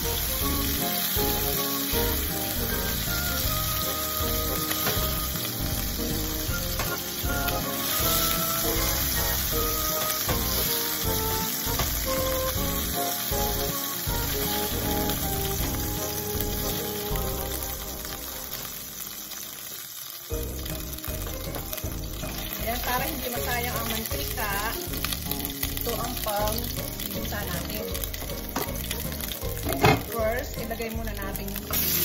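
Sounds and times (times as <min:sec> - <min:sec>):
chicken sizzling in oil: 0:00.0 - 0:32.0
light background music: 0:00.0 - 0:32.0.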